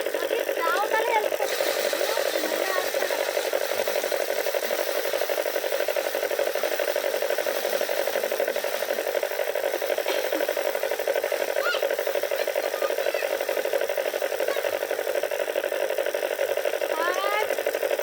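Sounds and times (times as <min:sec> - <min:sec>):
threshing machine running: 0:00.0 - 0:18.0.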